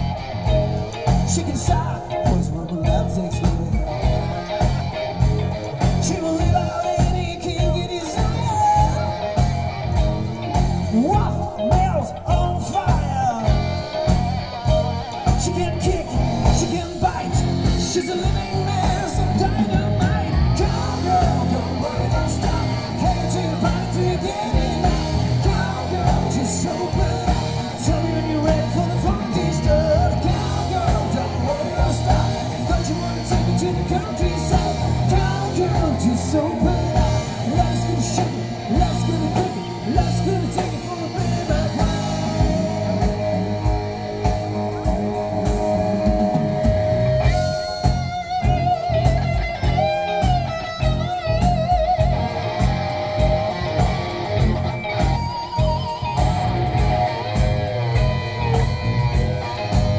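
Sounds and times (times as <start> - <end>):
bass guitar: 0.0 - 59.9
drums: 0.0 - 59.9
electric guitar: 0.0 - 59.9
keyboards: 0.0 - 59.9
person singing: 0.0 - 59.9.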